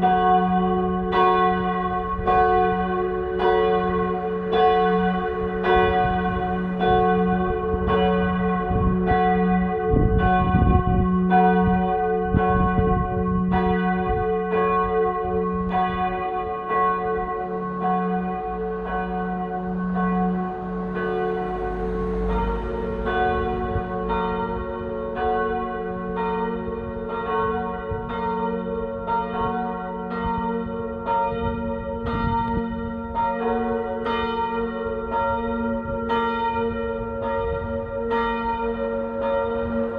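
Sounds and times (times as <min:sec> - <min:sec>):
church bells pealing: 0:00.0 - 0:39.9
lower bell tone: 0:00.0 - 0:39.9.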